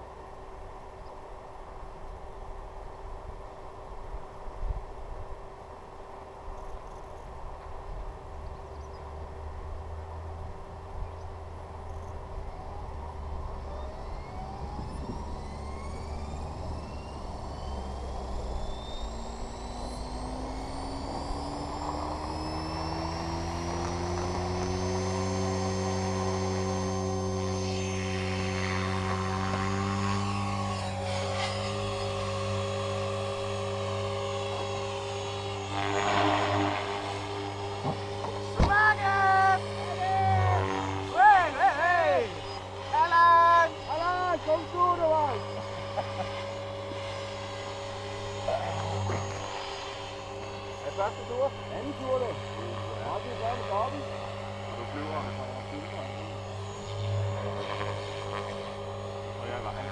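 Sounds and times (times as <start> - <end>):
rc helicopter motor and rotor whine: 0.0 - 59.9.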